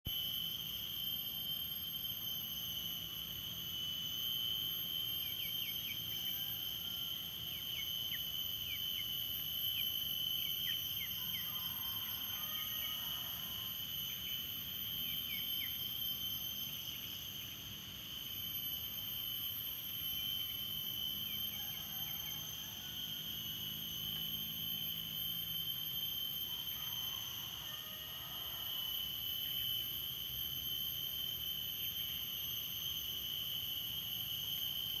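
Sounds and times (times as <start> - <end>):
high-pitched insect drone: 0.1 - 35.0.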